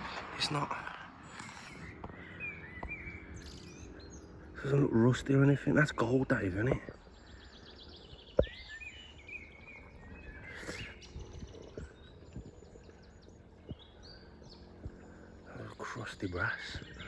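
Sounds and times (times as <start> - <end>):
birds singing and chirping: 0.0 - 17.0.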